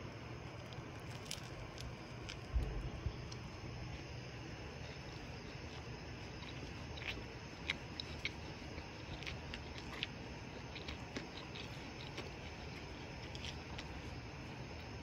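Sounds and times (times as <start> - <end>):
soft chewing clicks: 0.4 - 15.0.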